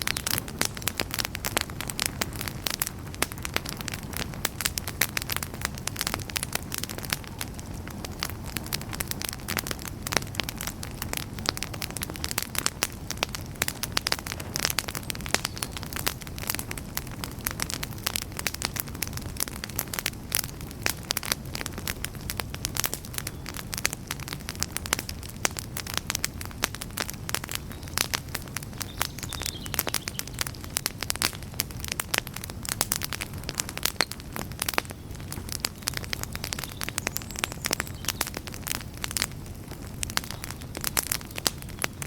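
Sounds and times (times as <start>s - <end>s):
campfire crackling and popping: 0.0s - 42.0s
low rush of flame: 0.1s - 28.9s, 29.8s - 42.0s.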